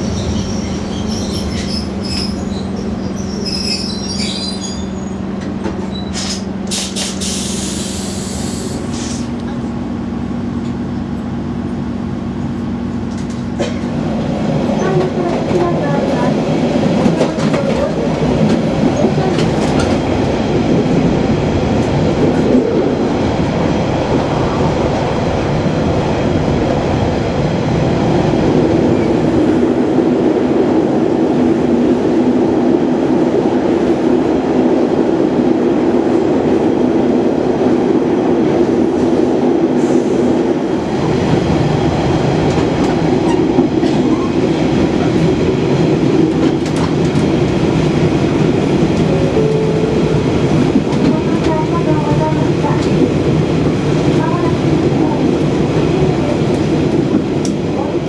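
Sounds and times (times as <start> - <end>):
wheels rumbling on track: 0.0 - 58.0.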